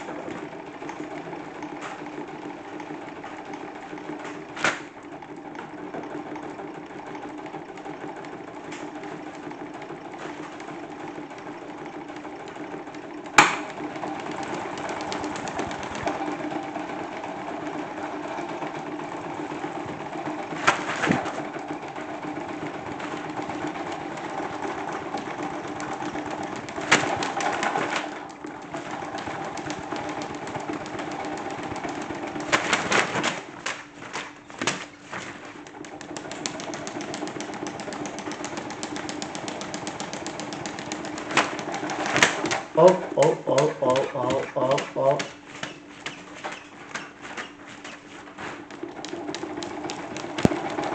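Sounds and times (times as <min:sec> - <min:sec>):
toy washing machine whirring: 0:00.0 - 0:50.9.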